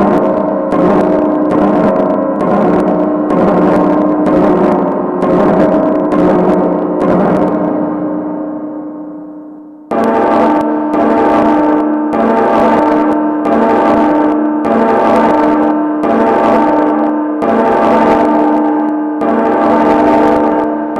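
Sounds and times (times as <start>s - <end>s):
gong-like metallic ringing: 0.0s - 20.9s.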